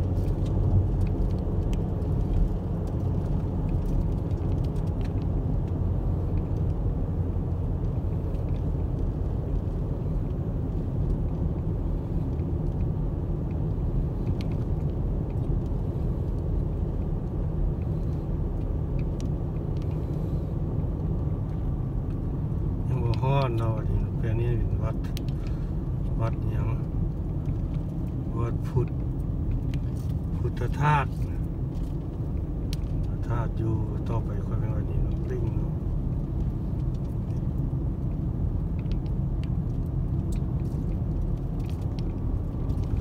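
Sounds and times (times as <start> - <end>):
car road and engine rumble: 0.0 - 43.0.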